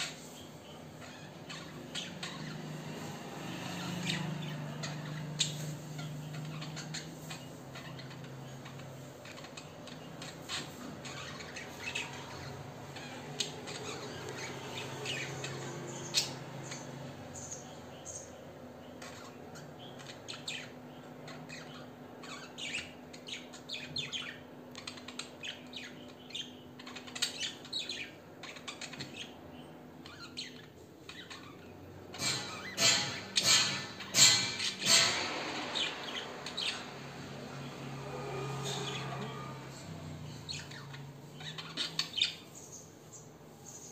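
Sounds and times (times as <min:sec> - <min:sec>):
budgerigars chattering: 0:00.0 - 0:36.9, 0:40.3 - 0:42.8.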